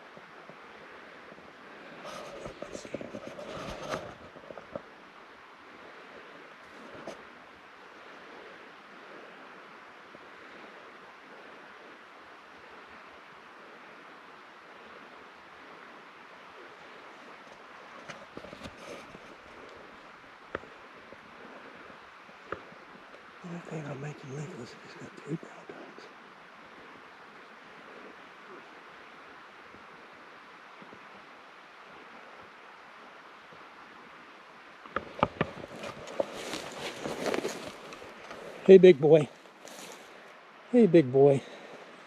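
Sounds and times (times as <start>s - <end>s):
faint outdoor background hiss: 0.0s - 42.0s
wind rushing in woods: 0.0s - 42.0s.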